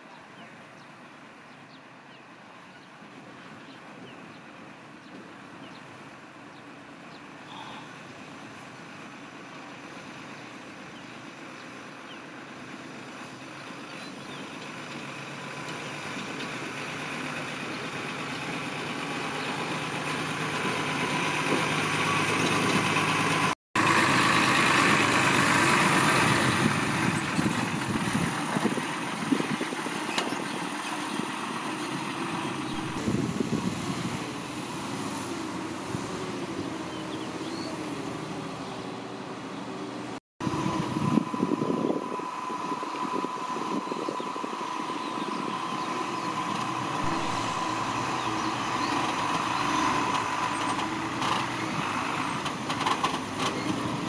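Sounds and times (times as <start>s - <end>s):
dump truck diesel engine: 3.0s - 54.0s.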